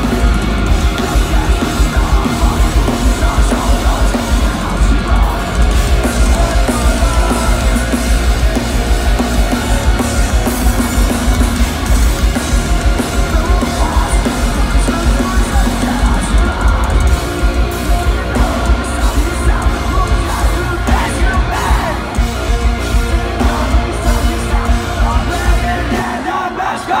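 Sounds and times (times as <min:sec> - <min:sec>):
metalcore band playing live: 0:00.0 - 0:27.0
person singing: 0:00.0 - 0:27.0.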